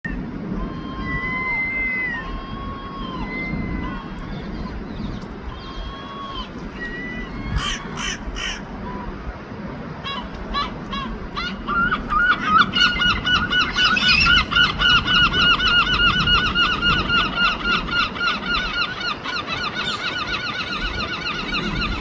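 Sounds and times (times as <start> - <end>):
gulls calling: 0.0 - 22.0.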